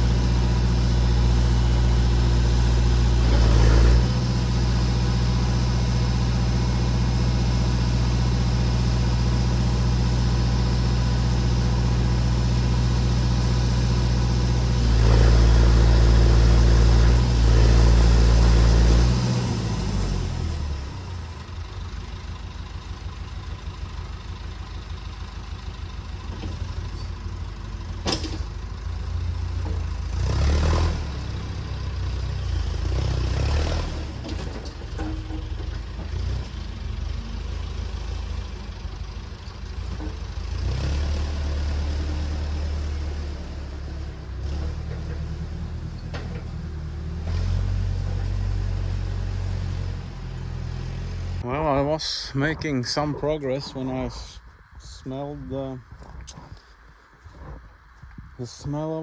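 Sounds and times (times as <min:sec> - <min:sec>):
backhoe engine running: 0:00.0 - 0:59.0.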